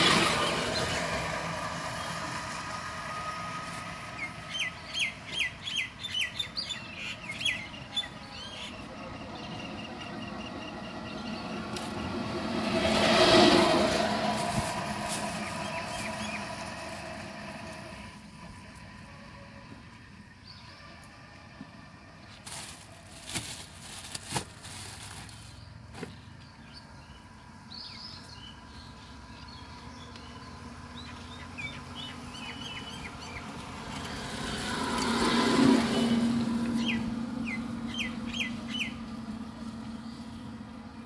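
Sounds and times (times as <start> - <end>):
motorised three-wheeler passing: 0.0 - 41.0.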